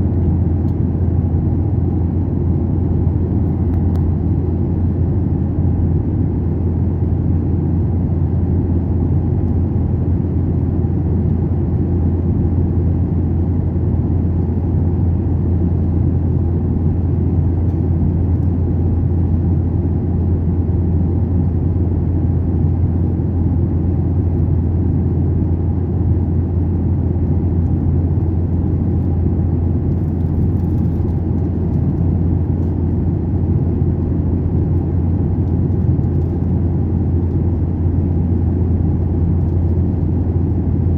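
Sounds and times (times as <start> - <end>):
jet engine and airflow drone: 0.0 - 40.9.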